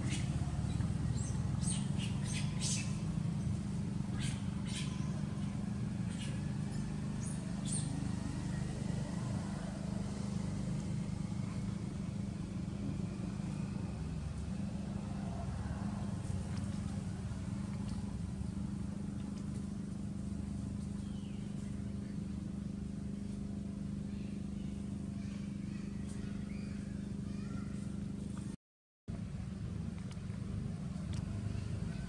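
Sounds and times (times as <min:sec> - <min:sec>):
vehicle engine droning: 0:00.0 - 0:32.0.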